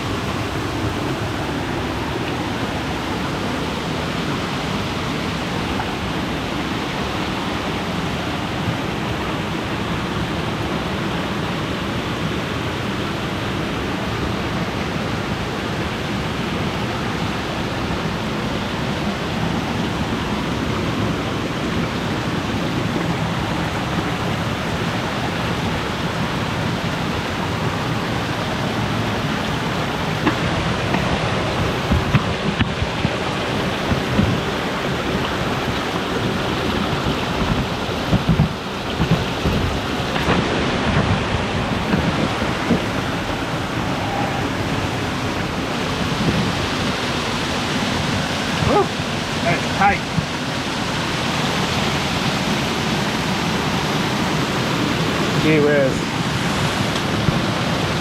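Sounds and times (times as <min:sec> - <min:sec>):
creek and waterfalls rushing: 0:00.0 - 0:58.0.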